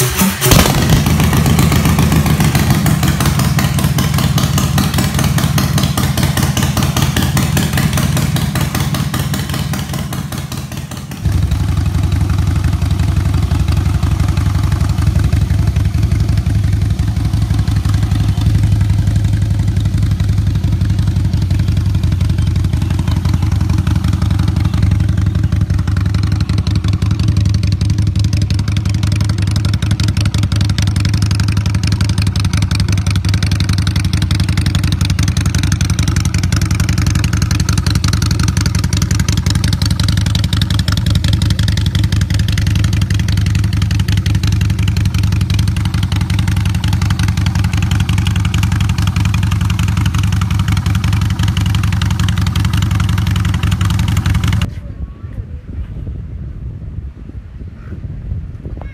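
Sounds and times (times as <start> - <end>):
motorcycle engine idling: 0.0 - 54.8.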